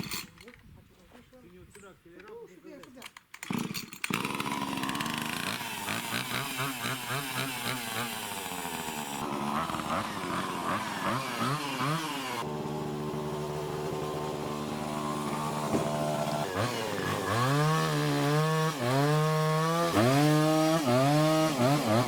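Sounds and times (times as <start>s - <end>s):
chainsaw engine revving: 3.4s - 22.0s.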